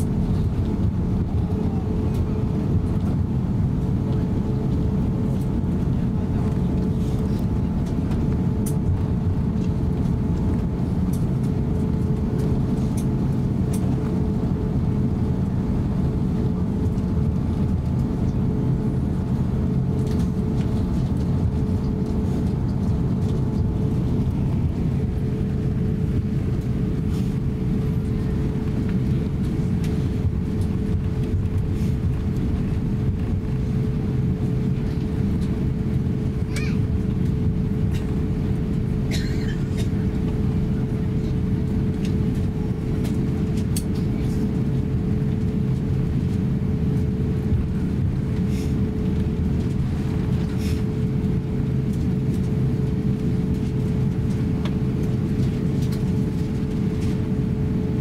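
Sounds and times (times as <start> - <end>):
aircraft cabin rumble: 0.0 - 58.0
mid-pitched hum: 0.0 - 58.0.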